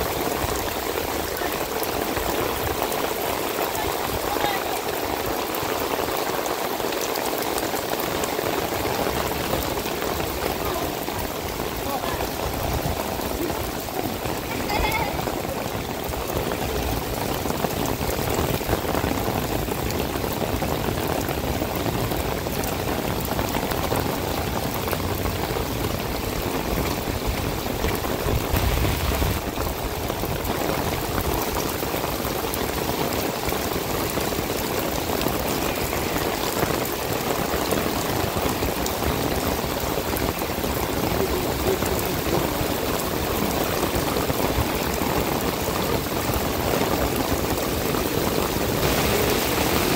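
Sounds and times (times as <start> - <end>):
rain splashing on pavement: 0.0 - 49.9.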